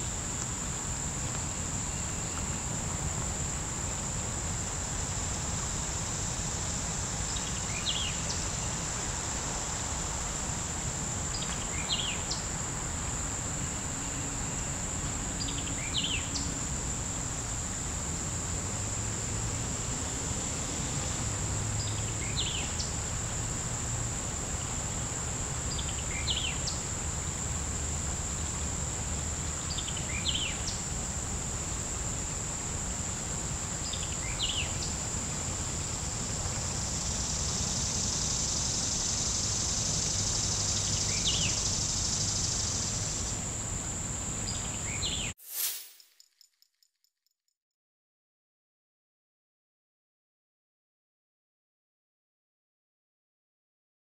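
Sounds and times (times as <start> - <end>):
insects droning: 0.0 - 46.7.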